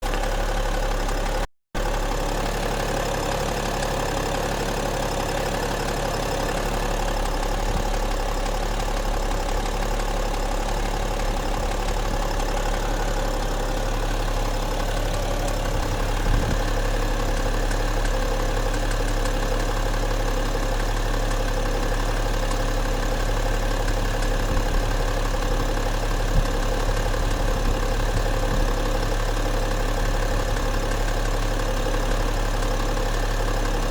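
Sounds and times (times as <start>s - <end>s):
diesel engine idling: 0.0s - 33.9s
faint engine ticks: 1.0s - 33.9s.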